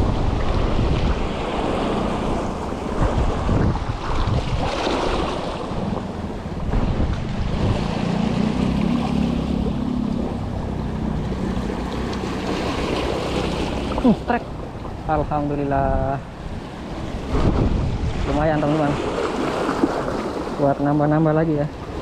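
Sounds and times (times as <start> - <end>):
waves splashing over rocks: 0.0 - 22.0
wind buffeting microphone: 0.0 - 22.0.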